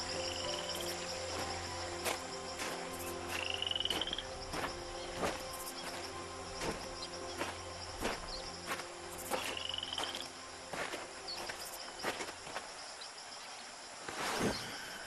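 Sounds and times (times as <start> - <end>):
footsteps on grass: 0.0 - 12.7
insects chirring: 0.0 - 15.0.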